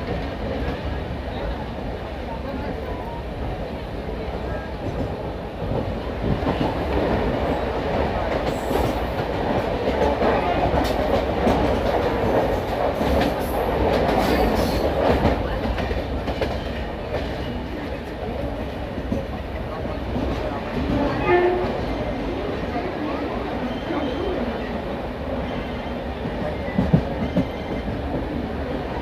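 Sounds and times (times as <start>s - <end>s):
train rumbling on tracks: 0.0s - 29.0s.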